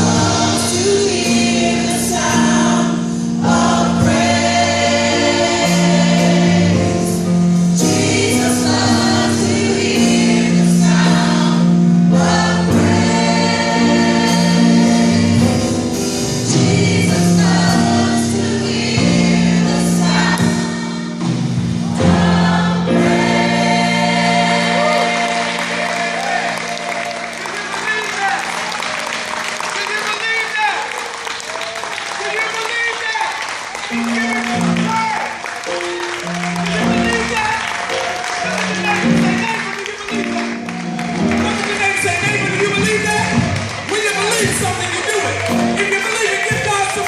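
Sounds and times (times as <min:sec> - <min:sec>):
gospel choir singing: 0:00.0 - 0:29.9, 0:36.0 - 0:47.0
instrumental accompaniment: 0:00.0 - 0:30.0, 0:33.6 - 0:47.0.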